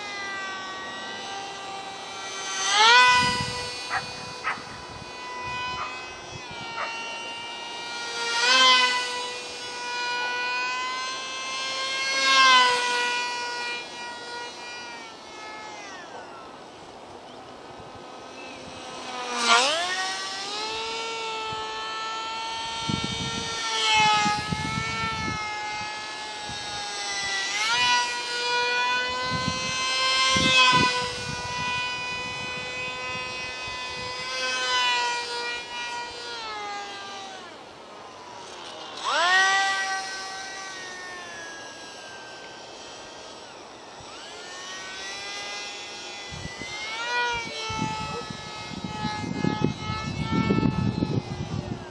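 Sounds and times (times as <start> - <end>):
small electric motor and propeller whining: 0.0 - 51.9.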